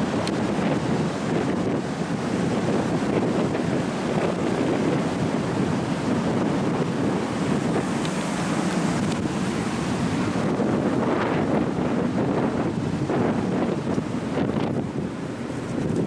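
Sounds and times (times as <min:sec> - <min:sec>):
ocean surf rushing: 0:00.0 - 0:16.0
wind buffeting microphone: 0:00.0 - 0:16.0.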